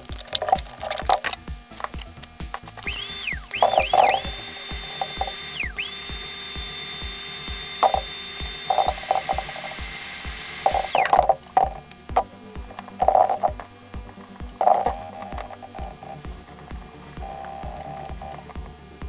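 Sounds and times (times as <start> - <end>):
background music with a beat: 0.0 - 19.0
small electric motor whining: 0.0 - 19.0.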